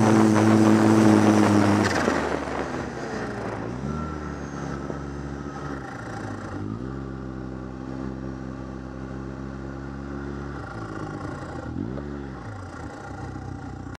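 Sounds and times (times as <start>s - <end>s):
snowmobile engine running: 0.0s - 13.9s.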